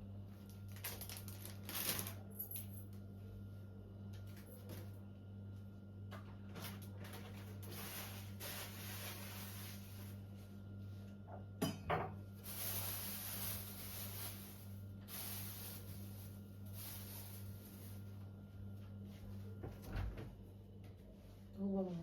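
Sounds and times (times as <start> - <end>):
steady low hum: 2.4 - 22.0.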